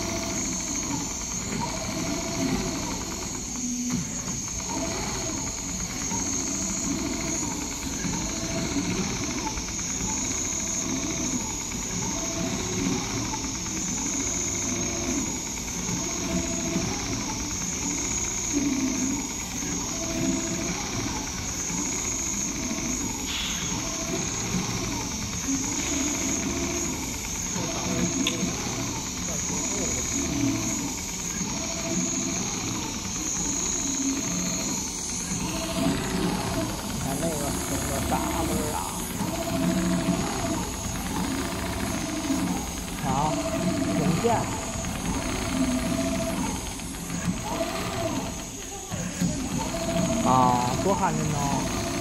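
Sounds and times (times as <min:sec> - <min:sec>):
high steady machine whine: 0:00.0 - 0:52.0
sewing machine needle chatter: 0:00.0 - 0:52.0.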